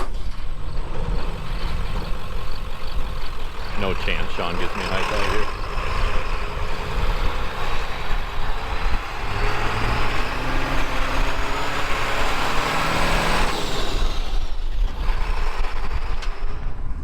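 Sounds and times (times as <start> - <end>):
truck driving past: 0.0 - 17.0.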